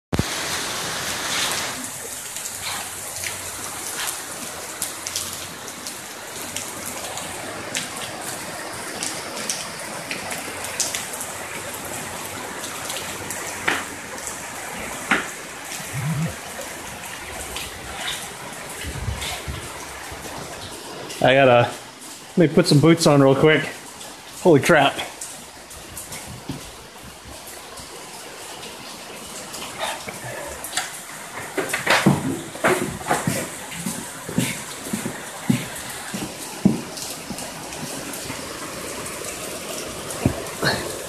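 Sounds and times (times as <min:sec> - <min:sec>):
heavy rain pouring: 0:00.1 - 0:41.0.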